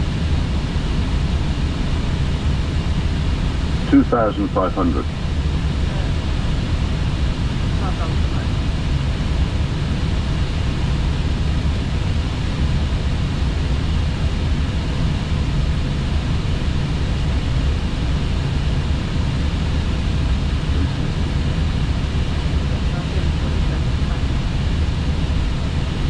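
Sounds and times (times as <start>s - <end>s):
cockpit low rumble: 0.0s - 26.0s.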